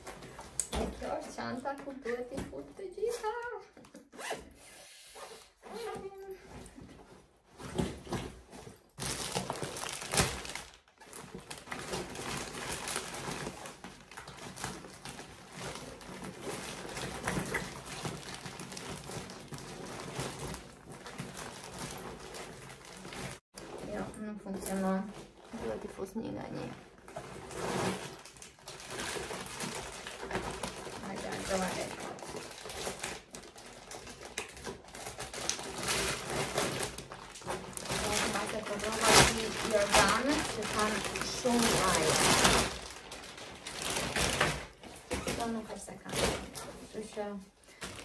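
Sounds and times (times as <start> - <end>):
plastic bag crinkling and rustling: 5.5 - 48.0.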